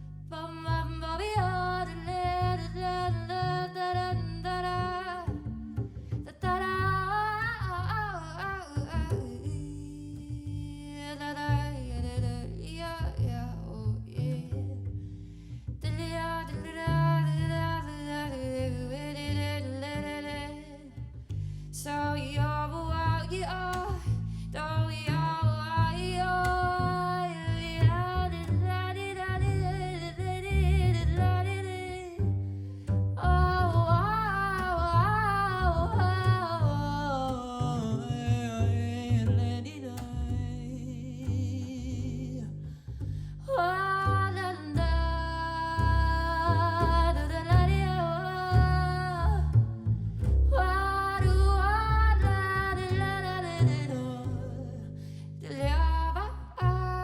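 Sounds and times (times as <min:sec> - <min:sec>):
double bass: 0:00.0 - 0:57.0.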